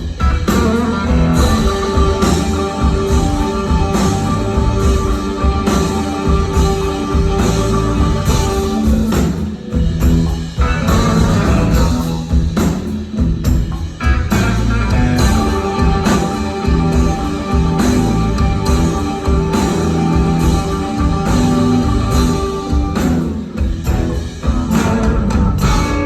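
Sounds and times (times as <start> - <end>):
rock band playing: 0.0 - 26.0.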